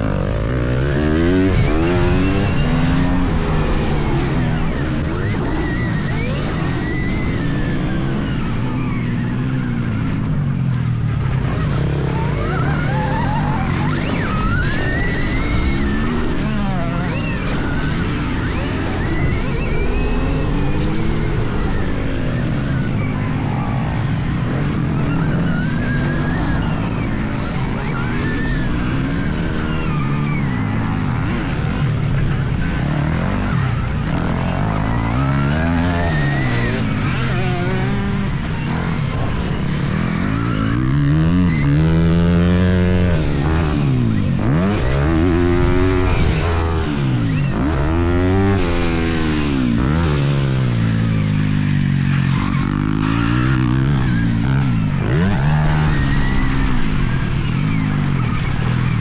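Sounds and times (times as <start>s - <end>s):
electric motorbike motor whine: 0.0s - 59.0s
wind and tyre noise: 0.0s - 59.0s.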